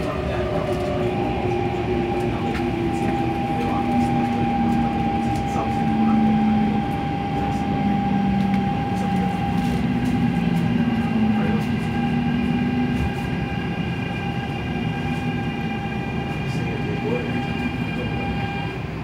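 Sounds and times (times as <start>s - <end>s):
low motor tones shifting pitch: 0.0s - 19.0s
traction equipment whine: 0.0s - 19.0s
train wheels rumbling on rail: 0.0s - 19.0s.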